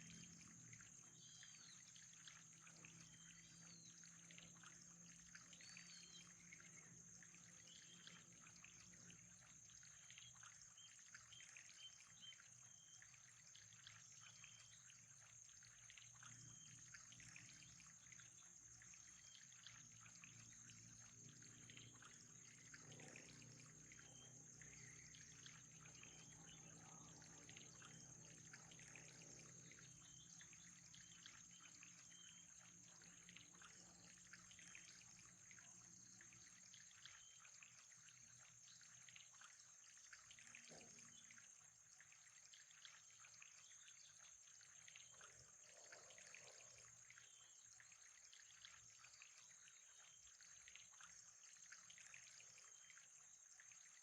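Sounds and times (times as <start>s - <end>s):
faint trickling water: 0.0s - 54.0s.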